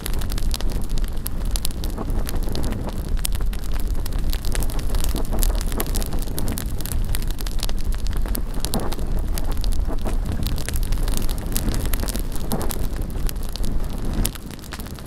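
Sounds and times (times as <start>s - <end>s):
bonfire crackling and popping: 0.0s - 15.0s
wind rumble on microphone: 0.0s - 15.0s.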